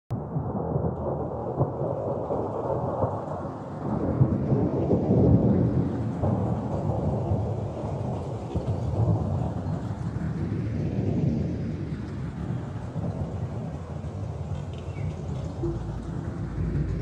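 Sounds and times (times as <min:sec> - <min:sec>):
wind buffeting microphone: 0:00.6 - 0:17.0.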